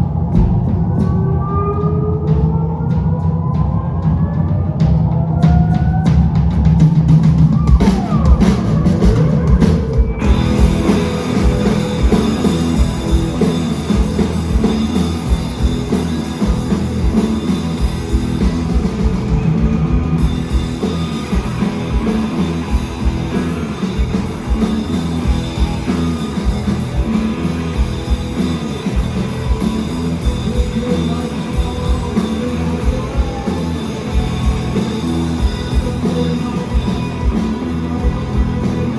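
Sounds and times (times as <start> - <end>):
rock band playing: 4.7 - 38.9
pounding drums: 4.9 - 38.9.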